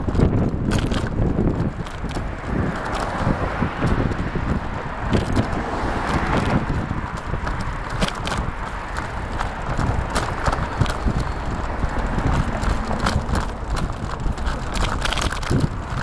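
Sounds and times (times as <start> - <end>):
bicycle rattling clicks and knocks: 0.0 - 16.0
wind rushing over microphone: 0.0 - 16.0.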